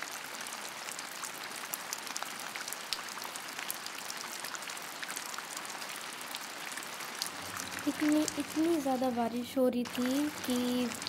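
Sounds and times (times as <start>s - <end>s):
heavy rain on a car roof: 0.0s - 9.0s.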